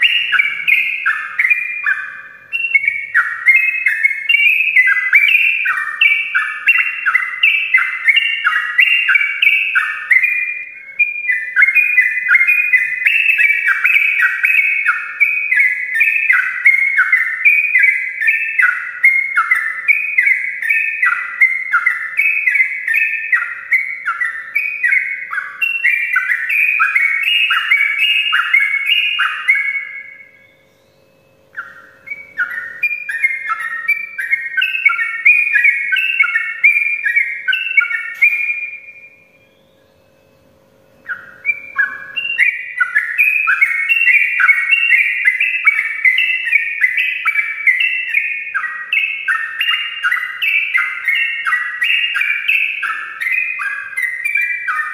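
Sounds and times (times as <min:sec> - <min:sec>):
bulbul chattering song: 0:00.0 - 0:54.9.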